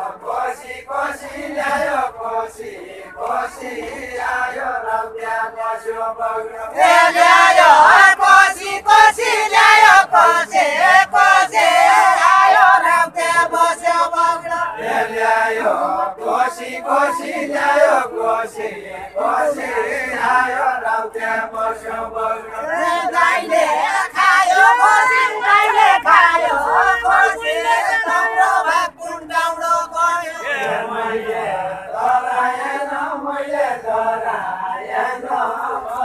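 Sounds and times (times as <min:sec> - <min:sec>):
group of voices chanting: 0:00.0 - 0:36.0.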